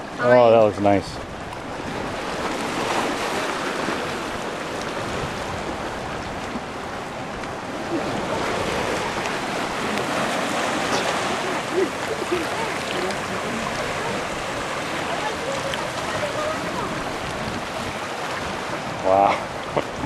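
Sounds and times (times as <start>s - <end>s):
surf washing over rocks: 0.0s - 20.0s
wind: 0.0s - 20.0s.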